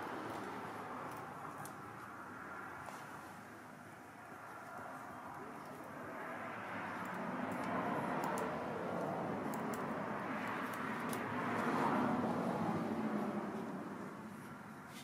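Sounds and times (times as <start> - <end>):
passing vehicle: 0.0 - 15.0.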